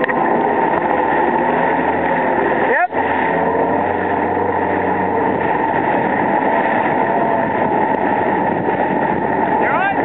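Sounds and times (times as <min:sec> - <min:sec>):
jet ski engine running: 0:00.0 - 0:10.0
water rushing under hull: 0:00.0 - 0:10.0.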